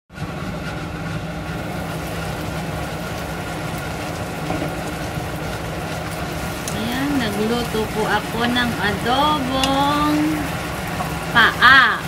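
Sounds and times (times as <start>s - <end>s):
low hum: 0.2s - 12.0s
sauce simmering and sizzling in pan: 0.2s - 12.0s.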